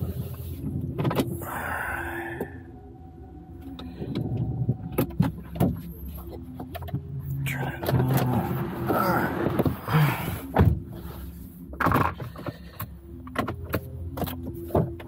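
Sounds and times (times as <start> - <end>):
car low hum: 0.0 - 15.0.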